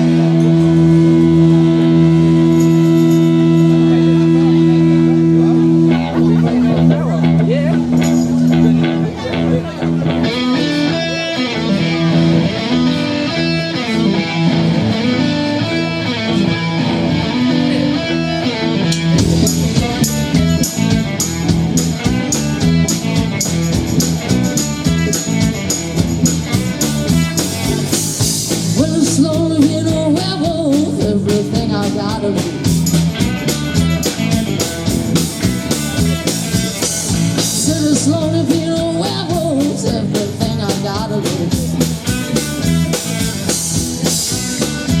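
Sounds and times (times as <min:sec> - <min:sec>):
drum kit and cymbals: 0:00.0 - 0:17.2, 0:18.8 - 0:45.0
guitar and bass: 0:00.0 - 0:45.0
pitch-bending guitar lines: 0:00.0 - 0:45.0.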